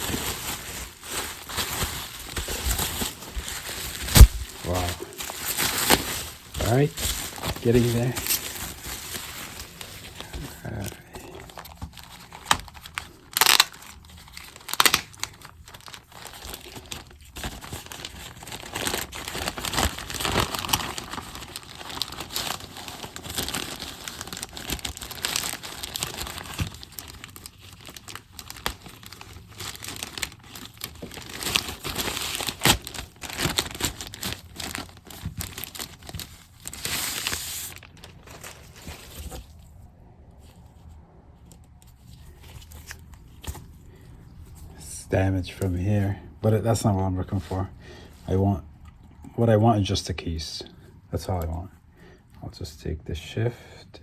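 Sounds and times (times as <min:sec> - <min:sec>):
plastic packaging rustling and tearing: 0:00.0 - 0:46.0.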